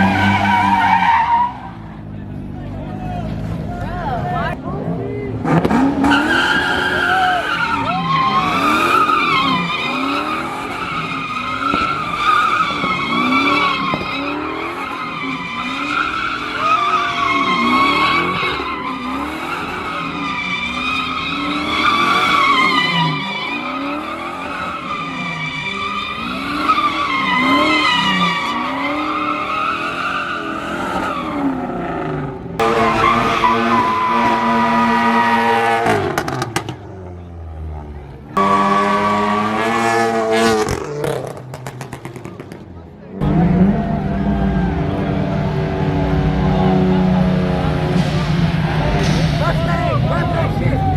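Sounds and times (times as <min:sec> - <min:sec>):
car engine revving: 0:00.0 - 0:50.9
tires squealing: 0:00.0 - 0:50.9.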